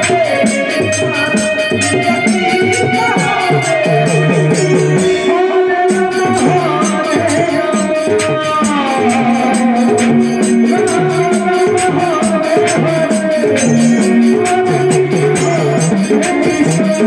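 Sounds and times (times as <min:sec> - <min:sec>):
jingling shaker percussion: 0:00.0 - 0:17.0
keyboard melody: 0:00.0 - 0:17.0.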